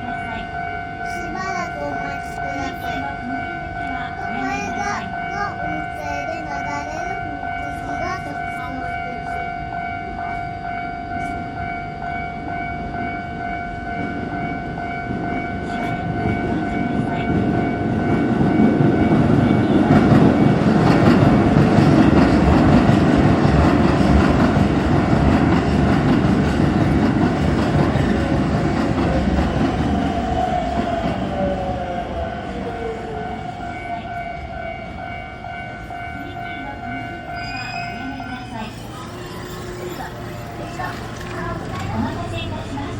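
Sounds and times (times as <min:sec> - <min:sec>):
level-crossing alarm ringing: 0:00.0 - 0:42.9
train rumble and rail clatter: 0:00.0 - 0:42.9.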